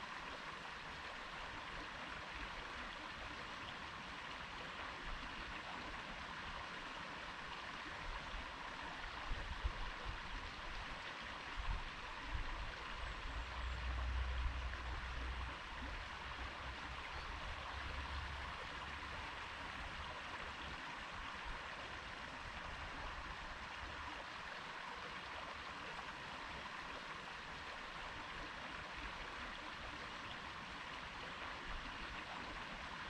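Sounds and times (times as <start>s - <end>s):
stream water running: 0.0s - 33.0s.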